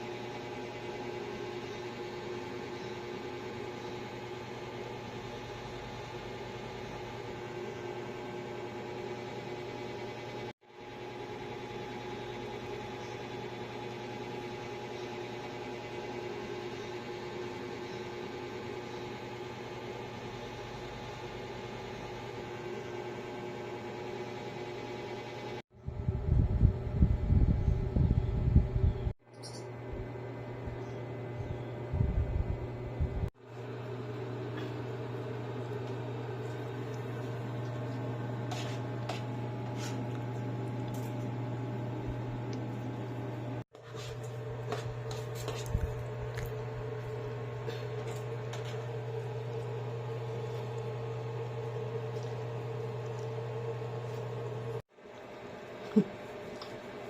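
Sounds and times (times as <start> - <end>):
steady hum with held tones: 0.0 - 57.0.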